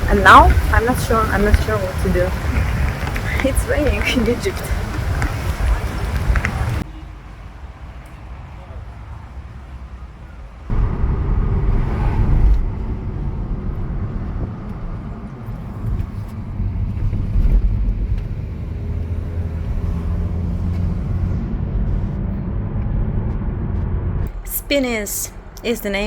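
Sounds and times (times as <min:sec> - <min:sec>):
road vehicle rumble: 0:00.0 - 0:26.0.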